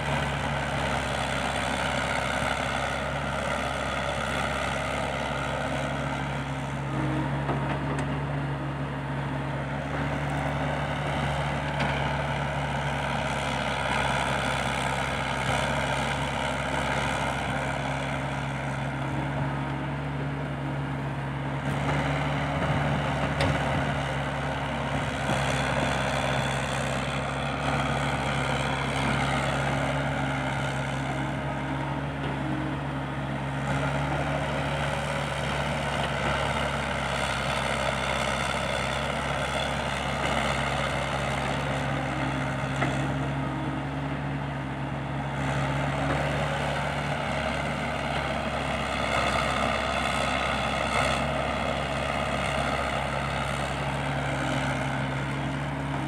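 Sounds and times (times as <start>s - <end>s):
diesel engines running: 0.0s - 56.0s
excavator digging soil: 0.0s - 56.0s.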